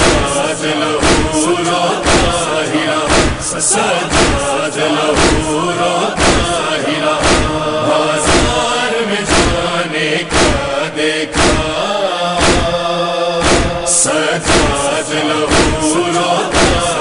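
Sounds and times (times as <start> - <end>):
steady beat: 0.0 - 11.8, 12.4 - 17.0
person chanting a lament: 0.0 - 17.0.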